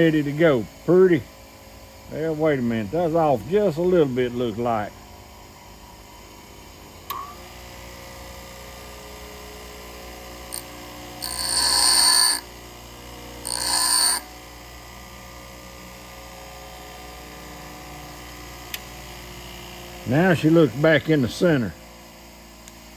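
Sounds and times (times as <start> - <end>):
bench grinder motor running: 0.0 - 22.9.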